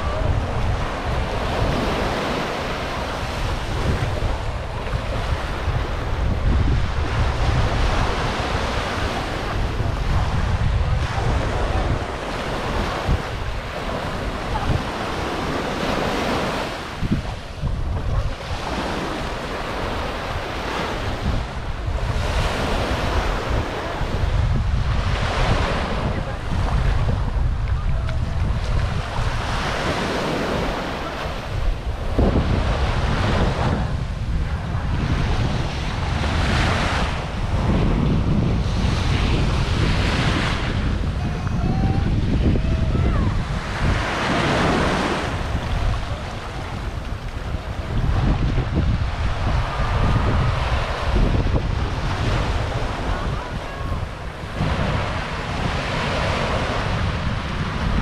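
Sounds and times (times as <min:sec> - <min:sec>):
waves washing on sandy shore: 0:00.0 - 0:58.0
wind buffeting microphone: 0:00.0 - 0:58.0.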